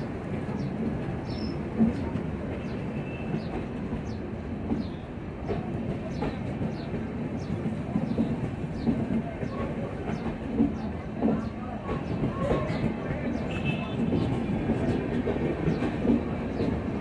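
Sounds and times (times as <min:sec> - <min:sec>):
clickety-clack of wheels: 0:00.0 - 0:17.0
train wheels rumbling on rail: 0:00.0 - 0:17.0.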